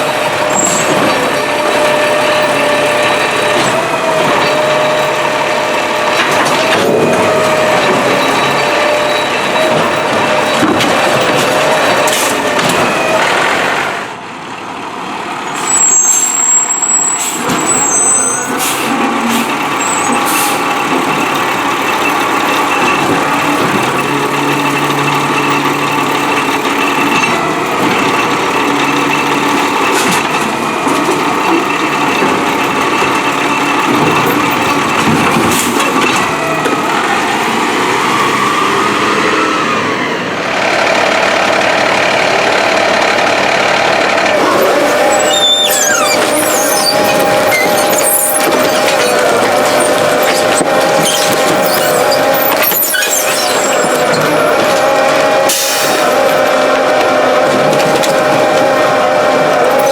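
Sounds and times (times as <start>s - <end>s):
refuse truck running: 0.0s - 59.9s.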